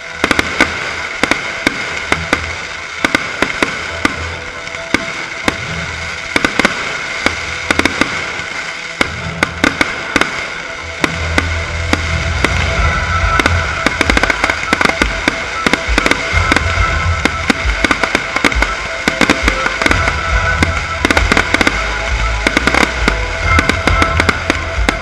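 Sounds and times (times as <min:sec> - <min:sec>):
firework bangs and crackling: 0:00.0 - 0:25.0
music: 0:00.0 - 0:25.0.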